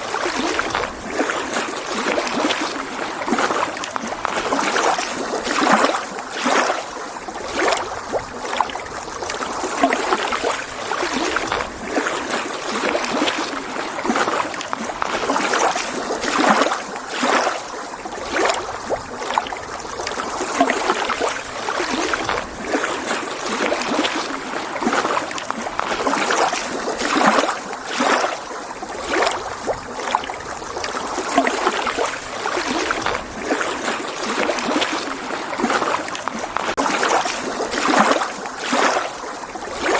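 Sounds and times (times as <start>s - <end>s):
waves lapping against shore: 0.0s - 39.9s.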